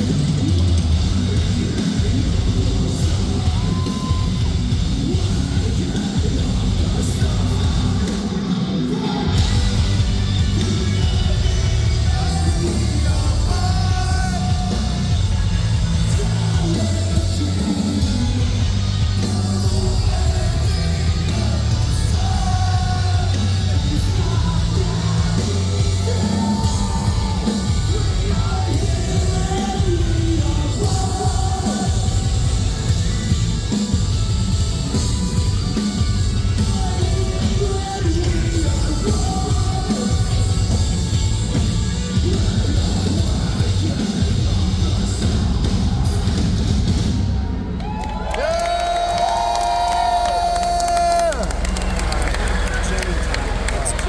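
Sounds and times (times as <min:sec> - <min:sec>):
sung and shouted vocals: 0:00.0 - 0:33.9, 0:36.6 - 0:54.0
bass and drums: 0:00.0 - 0:54.0
heavy distorted guitars: 0:00.0 - 0:54.0.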